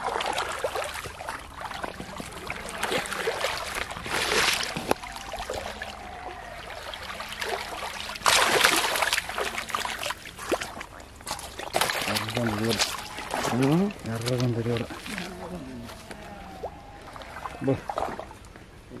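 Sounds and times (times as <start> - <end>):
fish splashing in shallow water: 0.0 - 18.4.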